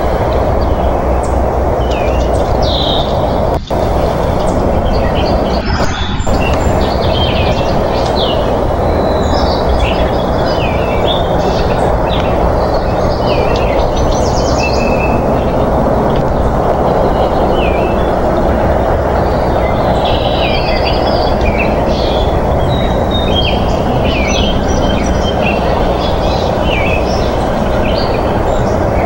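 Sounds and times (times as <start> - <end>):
loud rushing noise: 0.0 - 29.0.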